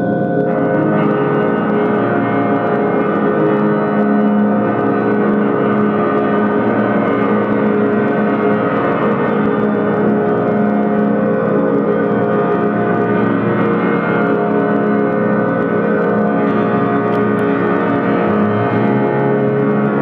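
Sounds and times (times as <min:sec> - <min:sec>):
dense sustained drone: 0:00.0 - 0:20.0.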